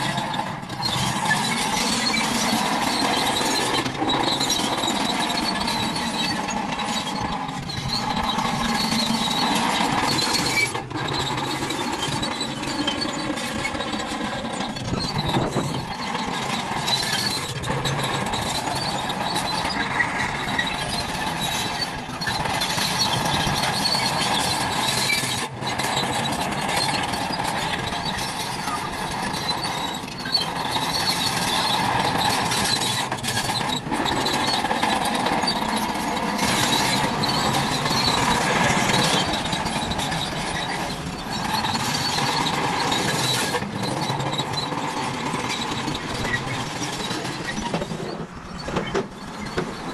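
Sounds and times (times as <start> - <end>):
toy truck motors whirring: 0.0 - 49.9.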